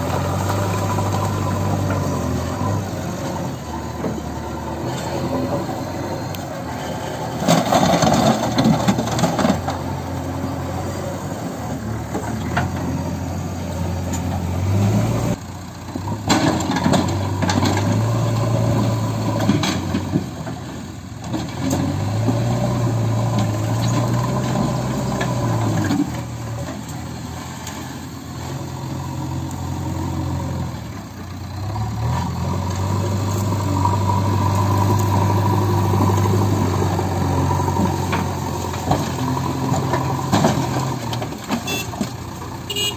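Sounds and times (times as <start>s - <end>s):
heavy diesel engine revving: 0.0s - 42.9s.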